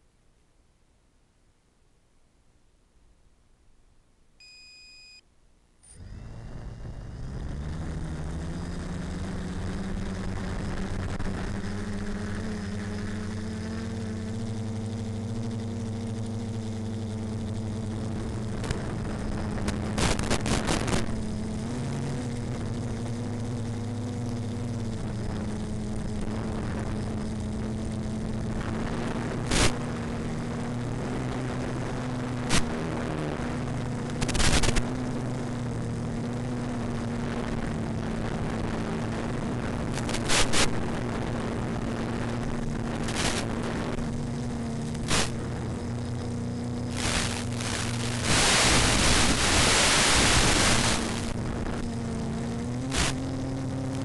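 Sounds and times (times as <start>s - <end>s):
model aircraft propellers droning: 5.9s - 54.0s
short crackling bursts: 7.1s - 54.0s.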